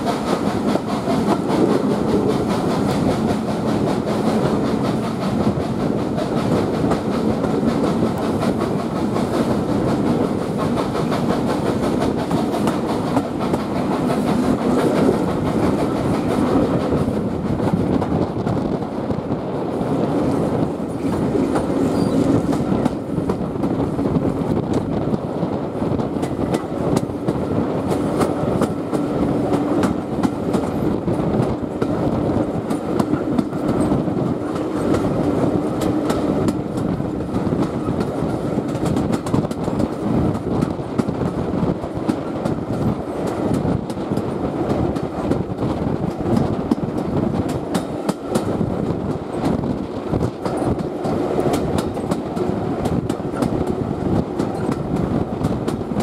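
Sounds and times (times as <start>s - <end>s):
clickety-clack of rail joints: 0.0s - 56.0s
wheels rumbling on rails: 0.0s - 56.0s.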